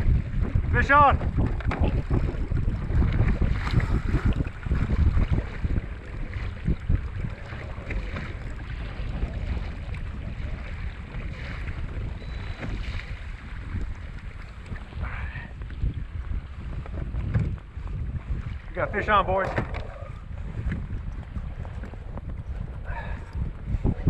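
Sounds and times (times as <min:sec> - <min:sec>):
water washing against kayak: 0:00.0 - 0:24.0
wind buffeting microphone: 0:00.0 - 0:24.0.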